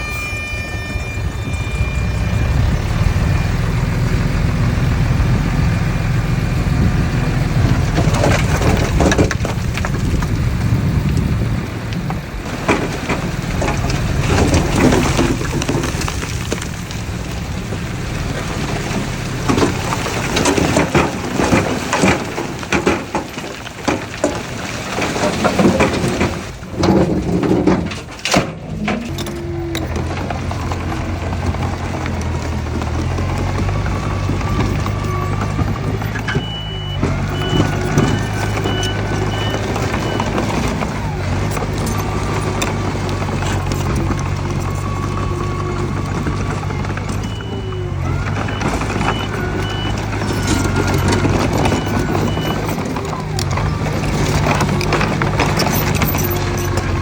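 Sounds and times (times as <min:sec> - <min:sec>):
heavy machinery engine rumble: 0:00.0 - 0:57.0
soil and stones crunching: 0:00.0 - 0:57.0.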